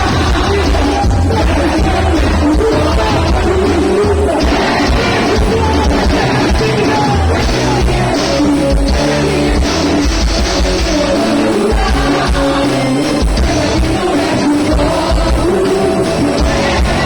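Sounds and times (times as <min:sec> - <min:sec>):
live rock band music: 0:00.0 - 0:17.0
person singing: 0:00.0 - 0:17.0.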